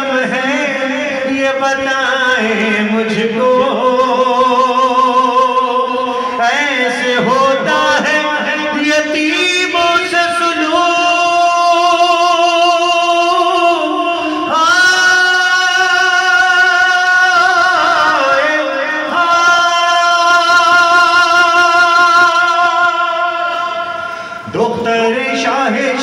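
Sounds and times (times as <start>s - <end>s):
man singing a lament: 0.0s - 26.0s.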